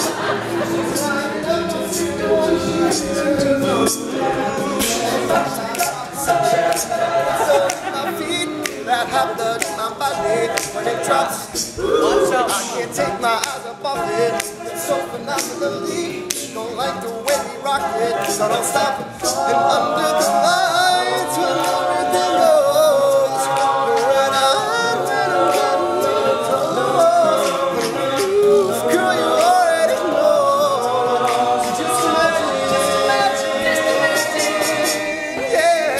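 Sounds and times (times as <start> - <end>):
male voices singing in harmony: 0.0 - 35.9
percussive beat: 0.0 - 35.9.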